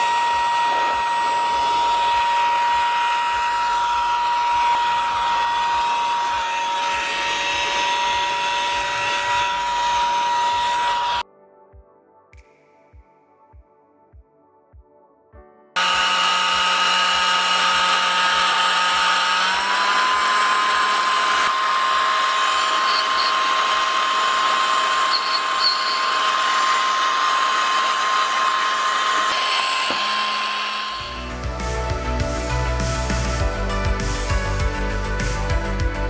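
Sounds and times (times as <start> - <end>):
blower motor whining: 0.0 - 11.2, 15.8 - 36.0.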